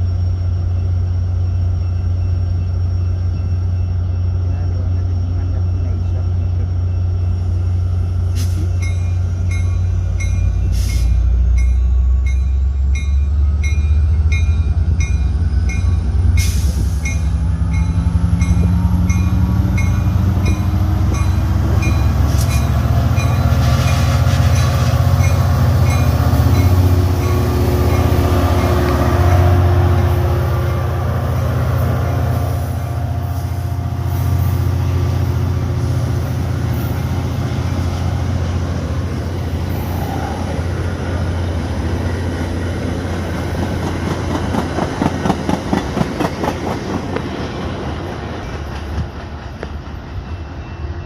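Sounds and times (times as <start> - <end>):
diesel locomotive engine running: 0.0 - 51.0.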